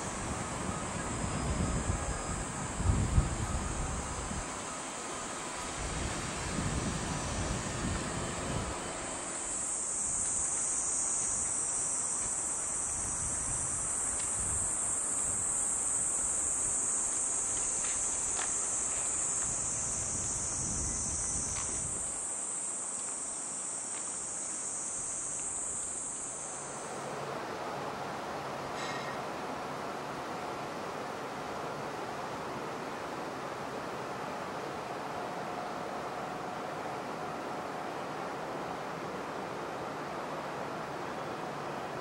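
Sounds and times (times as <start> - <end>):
cicadas droning: 0.0 - 42.0.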